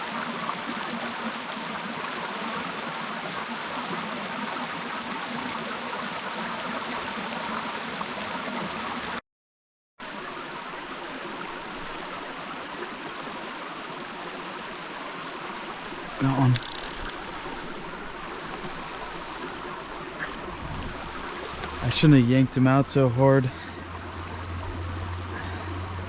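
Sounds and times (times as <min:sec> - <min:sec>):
stream water rushing: 0:00.0 - 0:09.2, 0:10.0 - 0:26.0.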